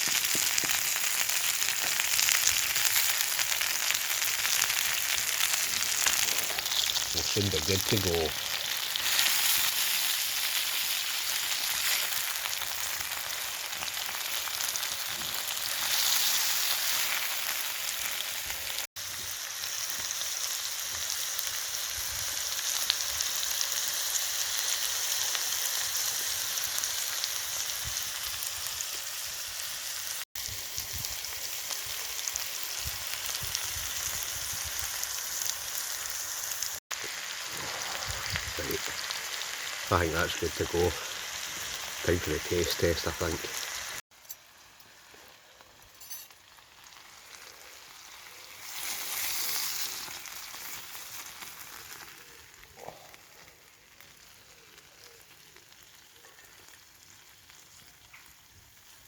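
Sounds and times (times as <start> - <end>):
food sizzling in a skillet: 0.0 - 59.0.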